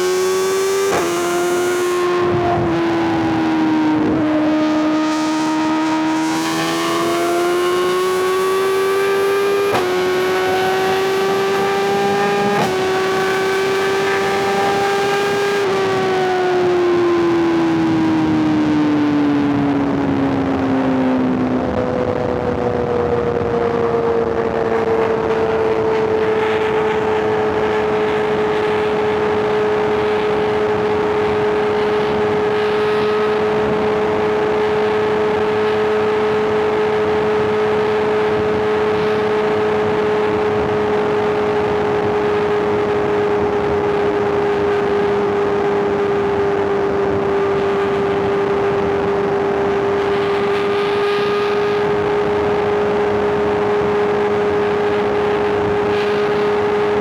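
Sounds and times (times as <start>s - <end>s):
motorcycle engine running: 0.0s - 17.2s, 19.5s - 57.0s.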